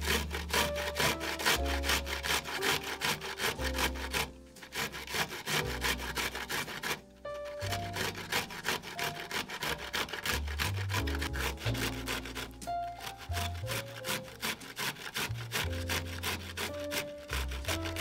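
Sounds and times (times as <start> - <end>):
broccoli rasping on a grater: 0.0 - 18.0
soft background music: 0.0 - 18.0.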